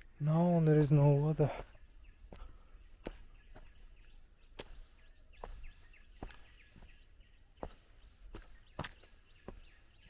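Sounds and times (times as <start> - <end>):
faint bird chirps: 0.0 - 10.0
footsteps walking: 1.5 - 10.0.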